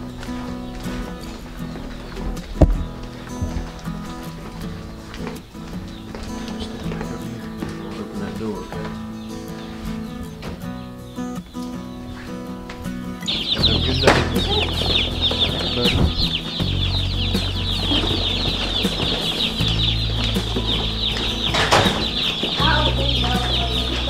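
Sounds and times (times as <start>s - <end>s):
chicks peeping: 0.0s - 24.0s
rumble of boxes being carried: 0.0s - 24.0s.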